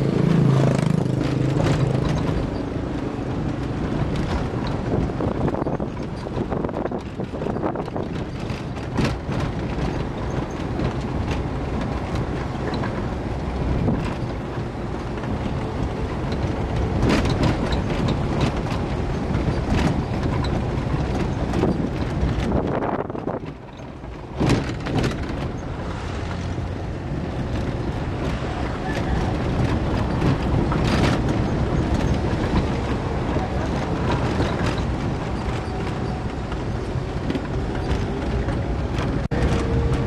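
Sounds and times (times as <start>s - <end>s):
vehicle engine and road noise: 0.0s - 40.0s
knocks and rattles: 0.4s - 40.0s.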